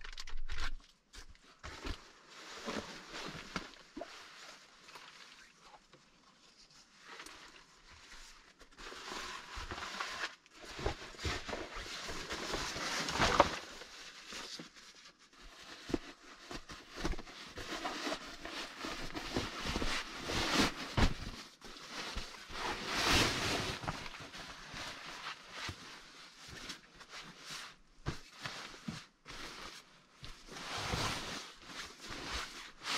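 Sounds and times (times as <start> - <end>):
fabric and nylon rustling: 1.3 - 4.8, 6.6 - 32.9.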